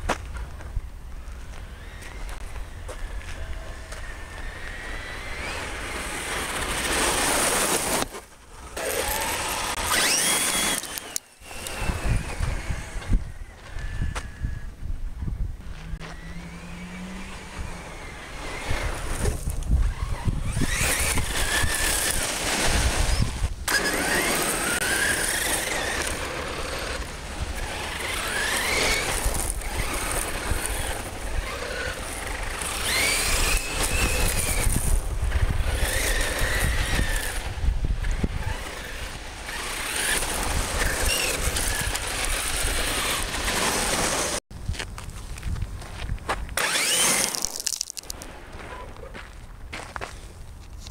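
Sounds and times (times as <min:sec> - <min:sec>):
tyres crunching gravel: 0:00.0 - 0:14.5, 0:15.6 - 0:50.9
electric motor whine: 0:01.4 - 0:14.8, 0:15.7 - 0:44.4, 0:46.6 - 0:47.7.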